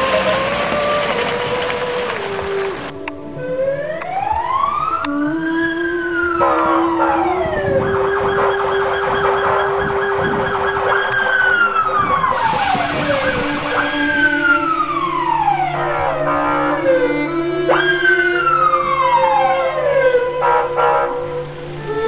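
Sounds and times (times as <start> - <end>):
siren-like wail: 0.0 - 22.0
steady drone: 0.0 - 22.0.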